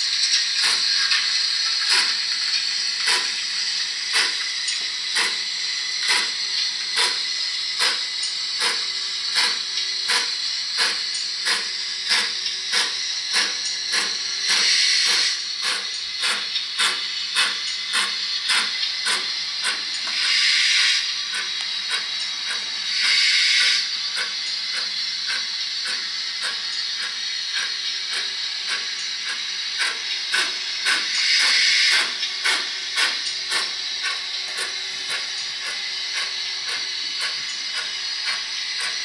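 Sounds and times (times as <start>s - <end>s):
hiss of steam: 0.0s - 39.0s
steam locomotive exhaust chuffs: 0.0s - 39.0s.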